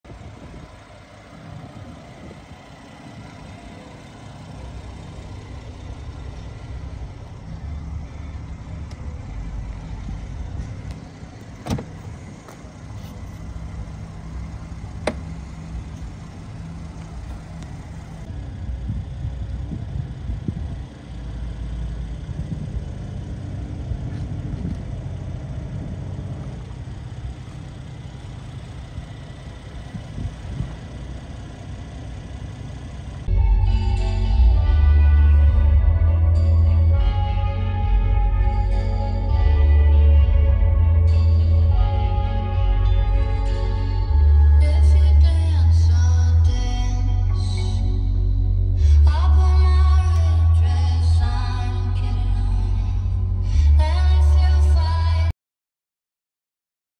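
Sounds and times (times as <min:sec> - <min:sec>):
car engine idling: 0:00.0 - 0:55.3.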